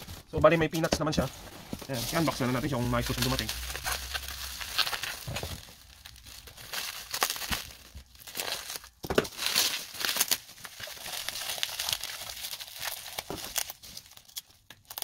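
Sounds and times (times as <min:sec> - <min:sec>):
bubble wrap crackling: 0:00.0 - 0:15.0.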